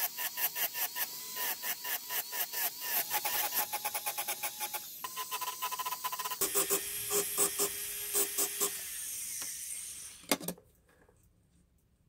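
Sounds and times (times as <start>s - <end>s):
rotary tool grinding metal: 0.0s - 10.2s.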